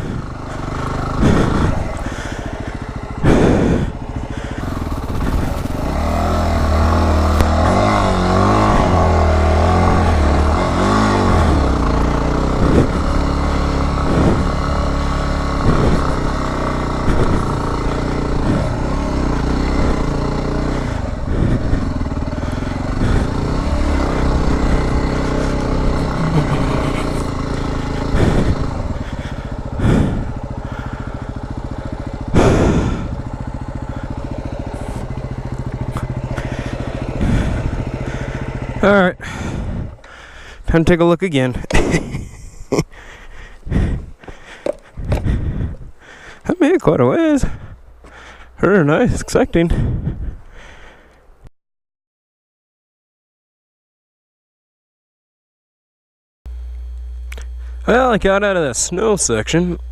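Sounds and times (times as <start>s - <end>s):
motorcycle engine revving: 0.0s - 51.2s, 56.5s - 59.9s.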